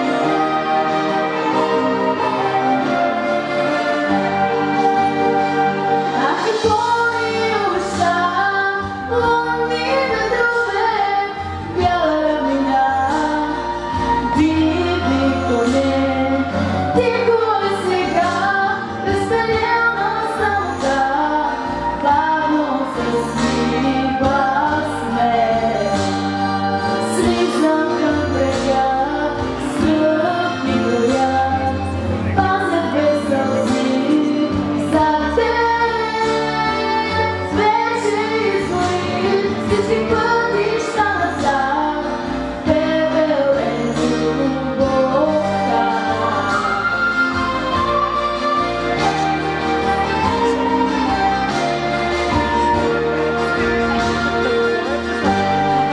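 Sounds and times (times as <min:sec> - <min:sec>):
instrumental accompaniment: 0:00.0 - 0:55.9
girl singing into microphone: 0:06.0 - 0:54.1.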